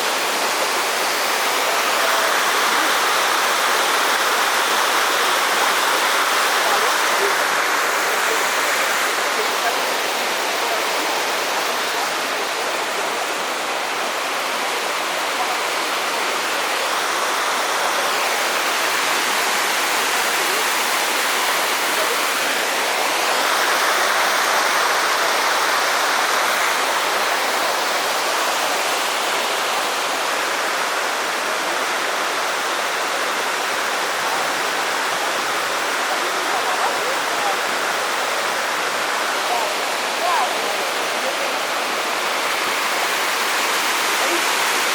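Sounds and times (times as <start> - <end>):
waterfall pouring: 0.0 - 44.9.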